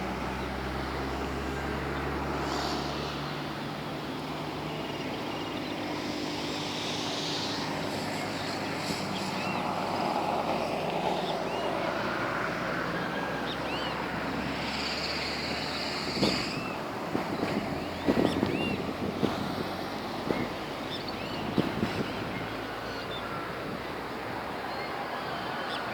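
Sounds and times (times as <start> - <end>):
steady vehicle drone: 0.0 - 25.9.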